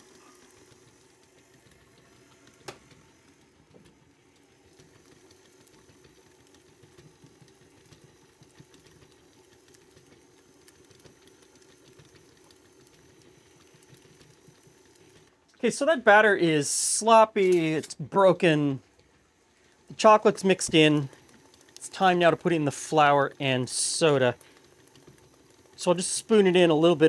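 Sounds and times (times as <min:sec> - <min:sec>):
stand mixer motor humming: 0:00.0 - 0:15.3, 0:19.6 - 0:27.0.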